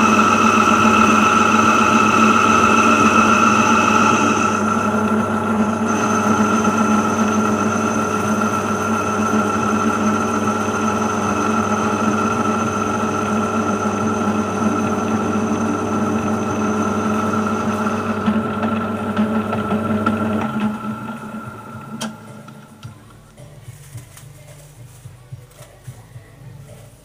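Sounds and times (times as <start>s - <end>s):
metal lathe whining: 0.0s - 23.2s.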